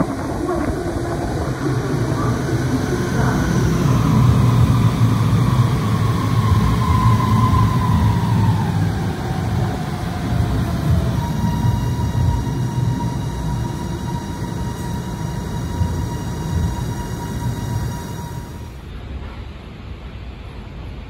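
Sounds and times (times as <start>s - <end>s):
train motor whine: 0.0s - 18.8s
train rumble: 0.0s - 21.0s.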